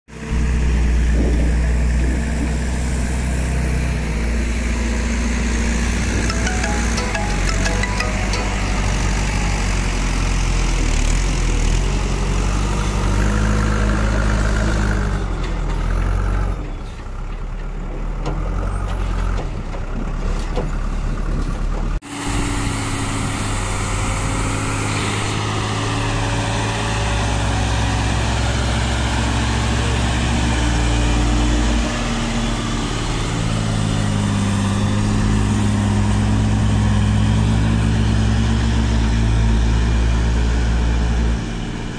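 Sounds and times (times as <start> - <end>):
truck diesel engine labouring: 0.2 - 41.9.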